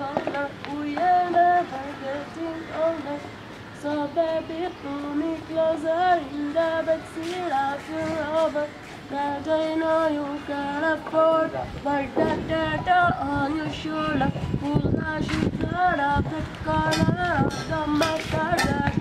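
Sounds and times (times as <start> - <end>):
boy singing unaccompanied: 0.0 - 19.0.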